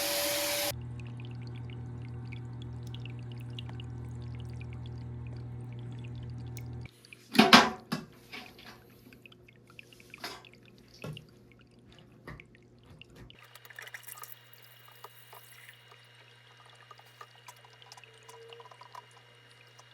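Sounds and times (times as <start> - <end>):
water dripping: 0.6 - 19.9
water splashing and pouring: 0.7 - 19.9.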